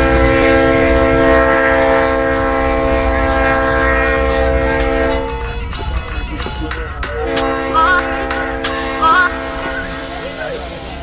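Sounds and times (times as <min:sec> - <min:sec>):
train horn blast: 0:00.0 - 0:10.6
train running rumble: 0:00.0 - 0:11.0.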